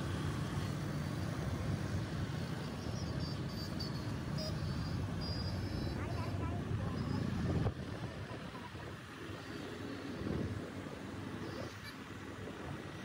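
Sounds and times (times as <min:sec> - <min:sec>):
scooter road noise rumble: 0:00.0 - 0:13.0.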